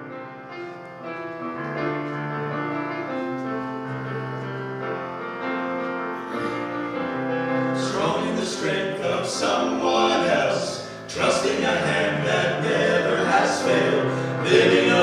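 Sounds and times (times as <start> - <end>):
slow gospel piano: 0.0 - 15.0.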